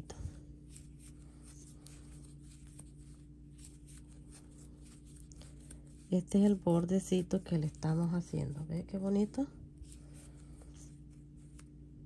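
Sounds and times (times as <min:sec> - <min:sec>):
steady low hum: 0:00.0 - 0:12.0
yarn rustling with crochet hook: 0:00.0 - 0:12.0.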